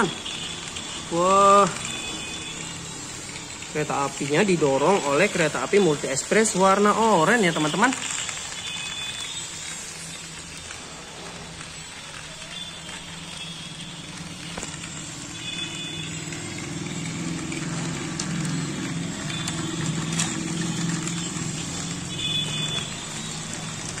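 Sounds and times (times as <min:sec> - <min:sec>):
toy train motors whirring: 0:00.0 - 0:24.0
wheels rattling over track joints: 0:00.0 - 0:24.0.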